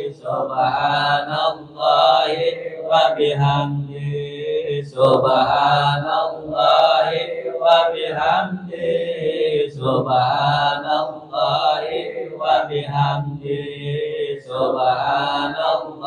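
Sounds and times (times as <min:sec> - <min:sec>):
men chanting through a microphone: 0:00.0 - 0:16.0.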